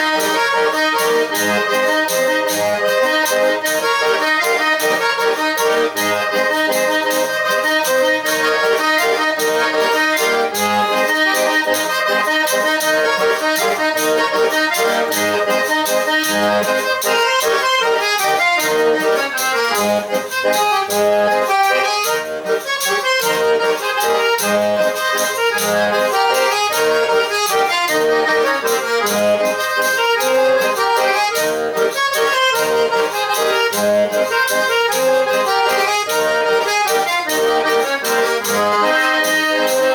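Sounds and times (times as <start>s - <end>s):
button accordion playing lively tune: 0.0s - 39.9s.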